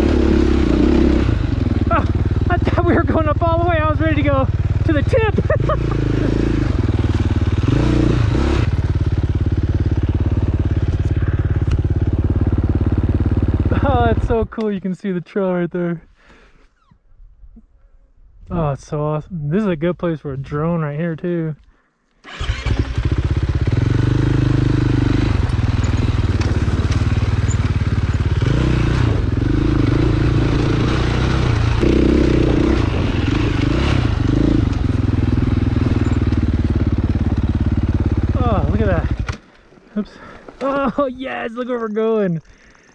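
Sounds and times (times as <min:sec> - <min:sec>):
dirt bike engine revving and idling: 0:00.0 - 0:14.6, 0:22.3 - 0:42.9.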